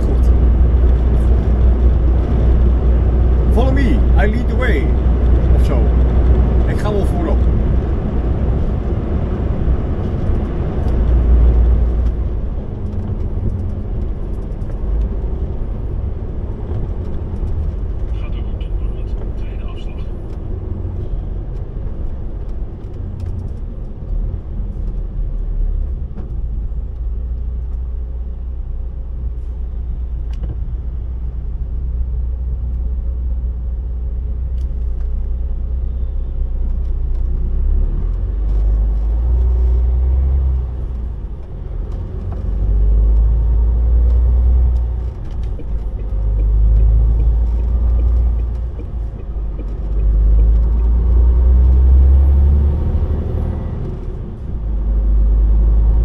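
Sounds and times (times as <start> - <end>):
heavy truck engine rumble: 0.0 - 56.0
road noise: 0.0 - 56.0.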